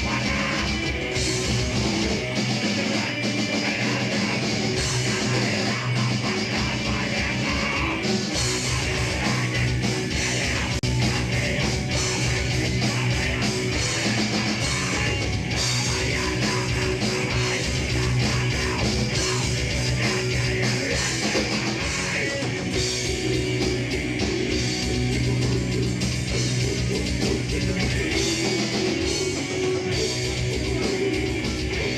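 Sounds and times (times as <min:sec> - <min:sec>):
drum kit beat: 0:00.0 - 0:31.9
electric guitar: 0:00.0 - 0:31.9
live rock band playing: 0:00.0 - 0:31.9.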